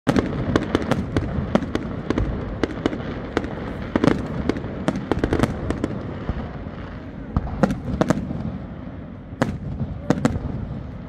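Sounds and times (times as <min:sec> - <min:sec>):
continuous background noise: 0:00.1 - 0:11.0
fireworks bursting: 0:00.1 - 0:11.0.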